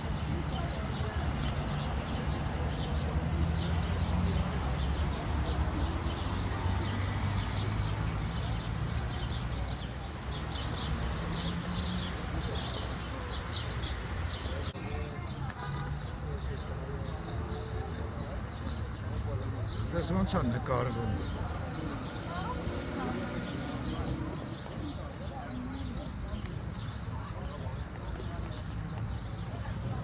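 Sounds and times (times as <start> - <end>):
birds chirping: 0.0 - 30.0
traffic engine hum: 0.0 - 30.0.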